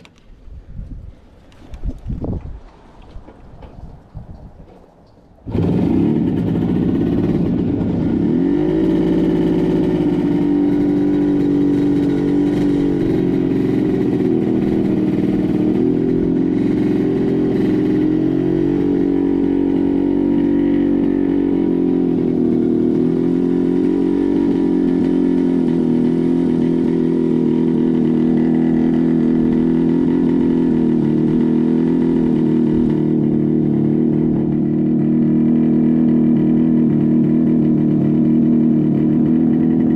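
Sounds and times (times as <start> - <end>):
two-stroke motorcycle engine running: 5.5 - 39.9.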